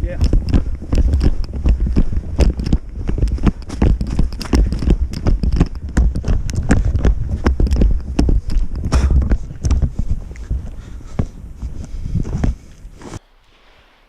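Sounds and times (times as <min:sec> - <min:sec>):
quick footsteps on ice: 0:00.0 - 0:13.2.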